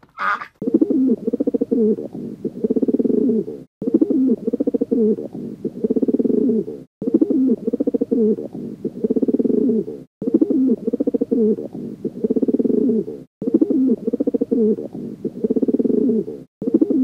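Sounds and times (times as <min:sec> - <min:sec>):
pigeons cooing: 0:00.2 - 0:17.0.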